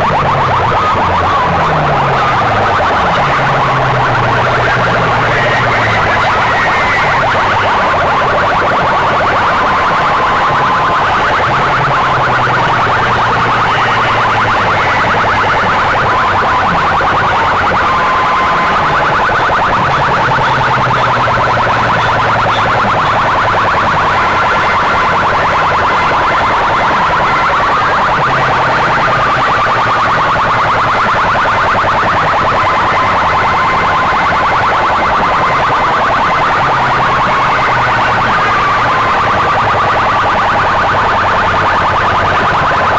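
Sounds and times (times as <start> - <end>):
siren-like wavering tones: 0.0 - 42.9.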